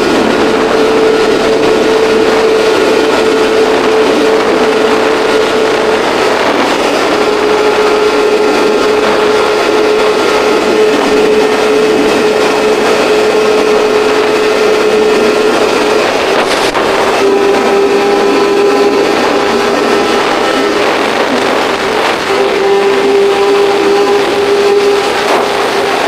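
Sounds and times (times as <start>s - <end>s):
vehicle engine running with whine: 0.0s - 26.0s.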